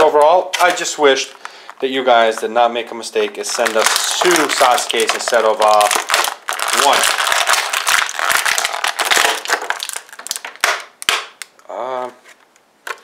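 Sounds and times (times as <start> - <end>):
plastic blister pack crinkling: 0.0 - 11.5.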